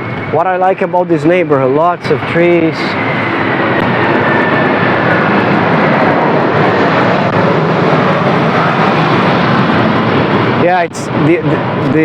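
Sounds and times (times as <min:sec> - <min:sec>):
airliner engine roar overhead: 0:00.0 - 0:12.0
high whine falling in pitch: 0:00.0 - 0:12.0.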